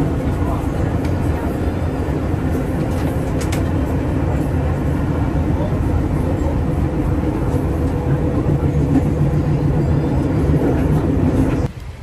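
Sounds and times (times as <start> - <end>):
vehicle low rumble: 0.0 - 12.0.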